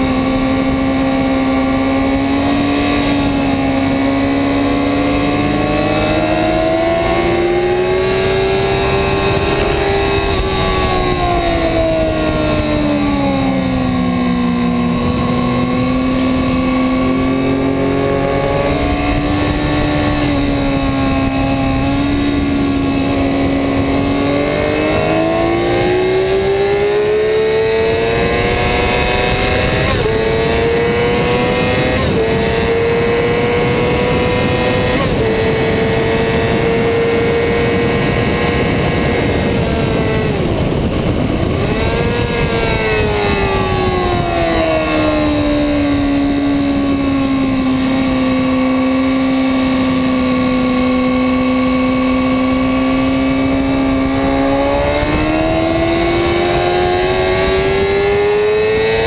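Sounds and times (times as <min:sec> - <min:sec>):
motorcycle engine at full pace: 0:00.0 - 0:59.0
wind rush: 0:00.0 - 0:59.0.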